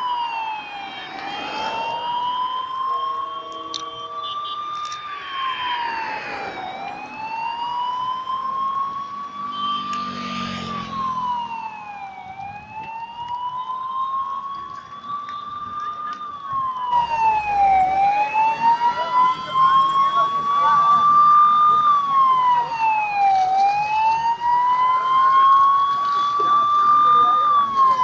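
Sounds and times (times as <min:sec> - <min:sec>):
emergency siren wailing: 0:00.0 - 0:28.0.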